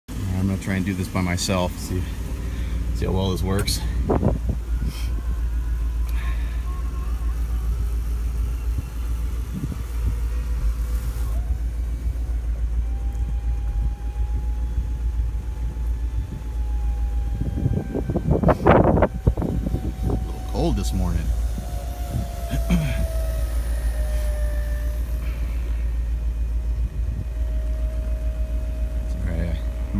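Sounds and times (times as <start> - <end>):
low rumble: 0.1 - 29.9
motor whine: 1.2 - 29.9.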